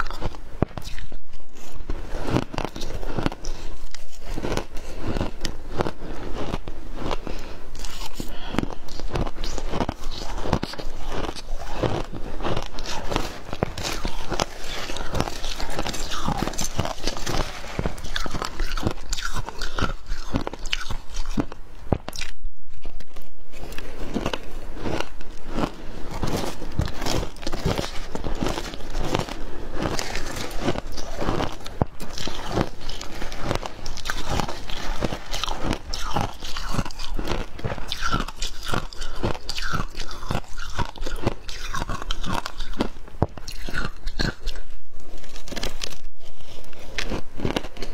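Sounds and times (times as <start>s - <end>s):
crunching shaved ice: 0.0s - 22.4s, 23.7s - 44.6s, 46.7s - 47.9s.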